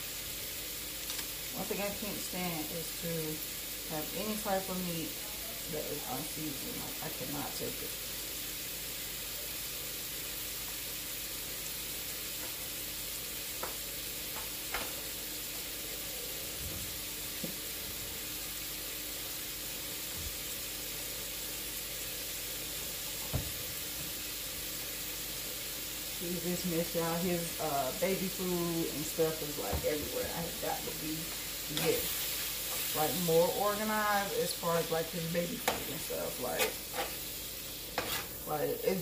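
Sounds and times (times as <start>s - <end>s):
ground beef sizzling: 0.0s - 39.0s.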